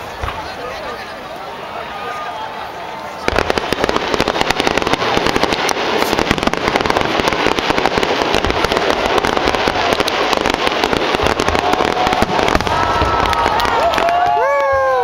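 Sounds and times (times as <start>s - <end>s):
crackling fireworks pops: 0.0s - 1.5s, 3.2s - 15.0s.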